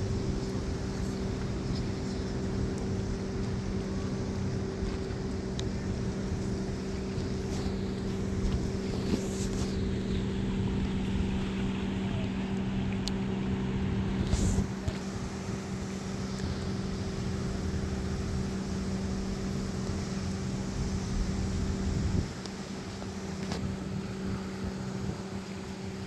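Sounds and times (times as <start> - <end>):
wind on microphone: 0.0 - 22.4
engine humming: 0.0 - 26.0.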